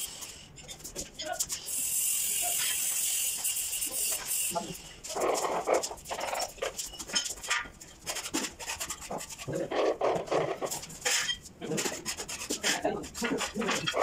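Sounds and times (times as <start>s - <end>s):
trowel scraping tile adhesive: 1.6s - 14.0s.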